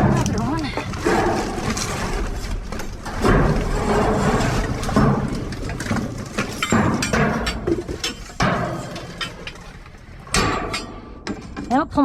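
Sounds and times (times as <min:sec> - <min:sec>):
scrap clattering in dumpster: 0:00.0 - 0:12.0.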